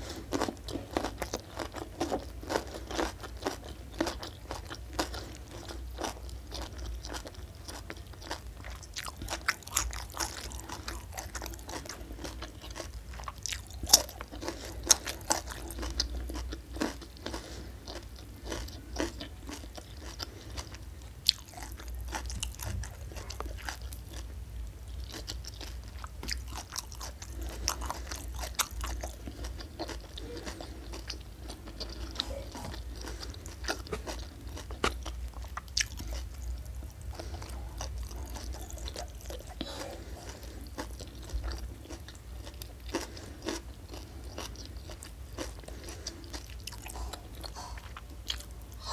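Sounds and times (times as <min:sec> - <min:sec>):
chewing and crunching food: 0:00.0 - 0:48.9
faint low hum: 0:00.0 - 0:48.9.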